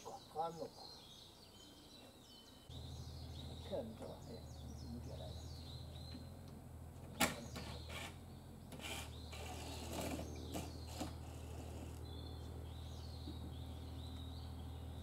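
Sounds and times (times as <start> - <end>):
birds chirping: 0.0 - 15.0
low machine hum: 2.6 - 15.0.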